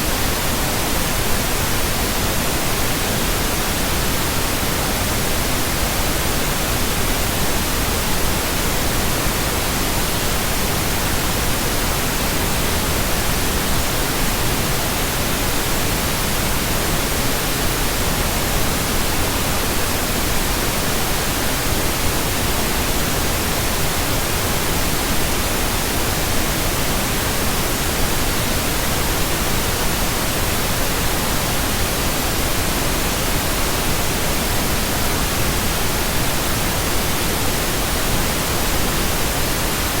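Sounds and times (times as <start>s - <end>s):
pink noise hiss: 0.0s - 40.0s.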